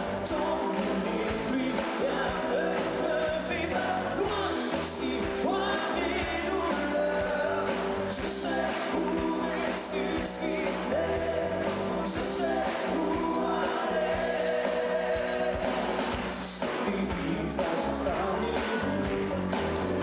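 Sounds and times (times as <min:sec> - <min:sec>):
pop-rock band playing: 0:00.0 - 0:20.0.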